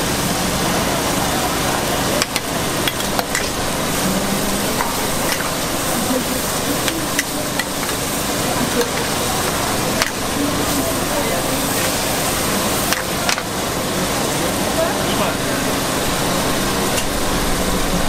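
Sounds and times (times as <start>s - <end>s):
sauce and vegetables sizzling in wok: 0.0s - 18.0s.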